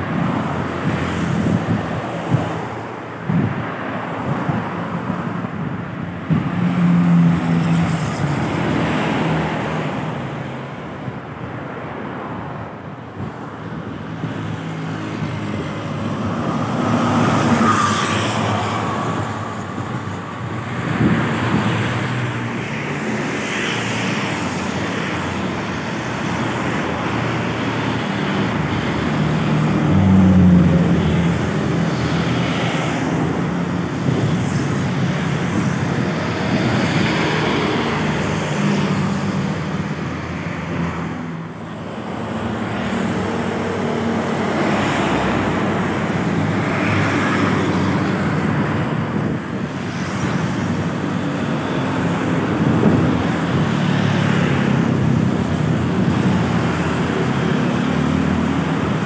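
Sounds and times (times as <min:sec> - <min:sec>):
vehicles passing by: 0:00.0 - 0:59.0.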